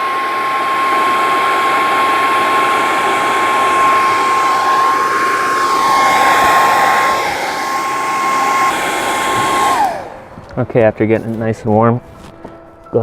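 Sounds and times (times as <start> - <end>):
hot-air blower whining: 0.0 - 12.3.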